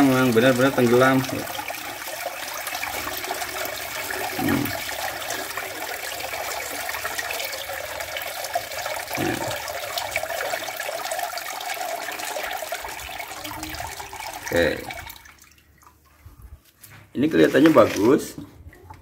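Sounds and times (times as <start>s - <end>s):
water pouring through a colander: 0.0s - 19.0s.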